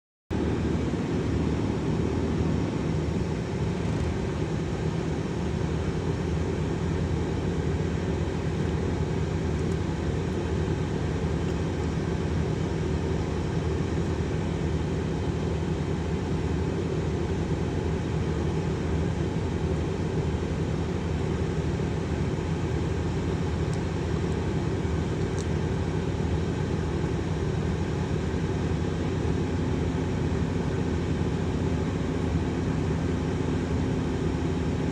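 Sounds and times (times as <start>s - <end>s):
heavy engine rumbling: 0.3s - 34.9s.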